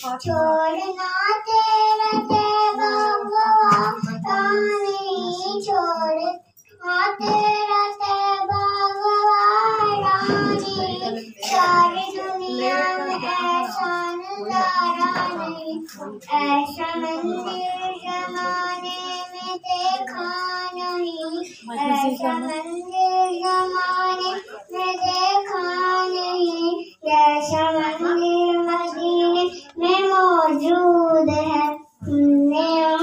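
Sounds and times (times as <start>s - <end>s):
girl singing into a microphone: 0.0s - 33.0s.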